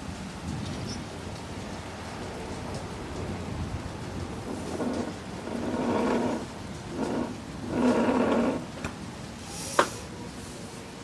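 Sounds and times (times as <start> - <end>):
heavy rain pouring: 0.0 - 11.0
low continuous rumble: 0.0 - 11.0.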